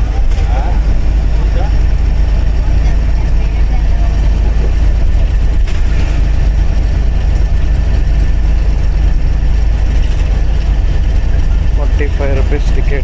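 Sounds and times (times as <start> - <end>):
bus engine rumbling: 0.0 - 13.0
road noise: 0.0 - 13.0.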